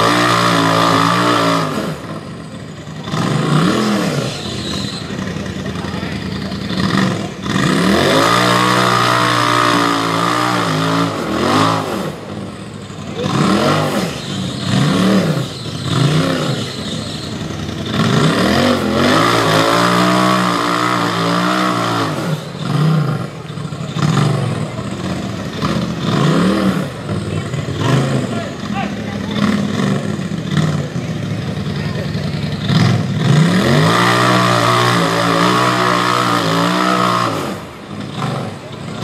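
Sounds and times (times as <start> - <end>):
engine revving in bursts: 0.0 - 5.6, 6.2 - 39.0.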